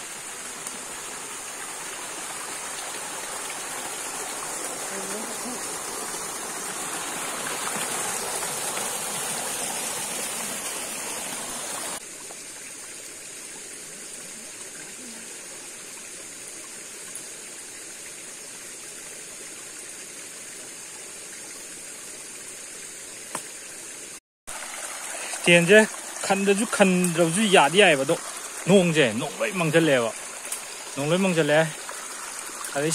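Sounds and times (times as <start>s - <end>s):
stream water rushing: 0.0s - 32.9s.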